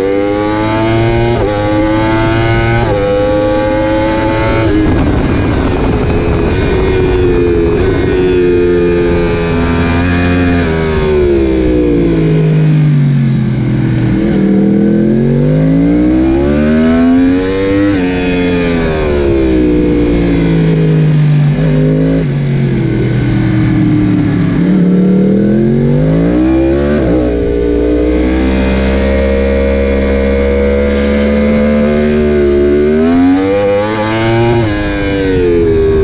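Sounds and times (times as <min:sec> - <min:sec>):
motorcycle engine revving: 0:00.0 - 0:36.0
wind rushing over microphone: 0:00.0 - 0:36.0.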